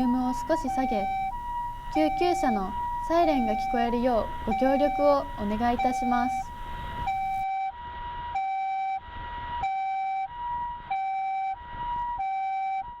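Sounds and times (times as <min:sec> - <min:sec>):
ambulance two-tone siren: 0:00.0 - 0:13.0.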